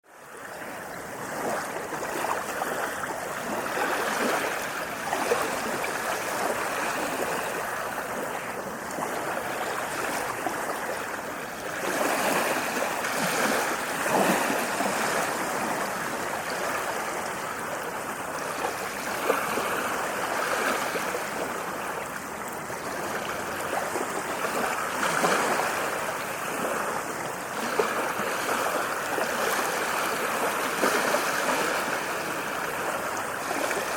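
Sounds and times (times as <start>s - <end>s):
stream water babbling: 0.0s - 33.9s.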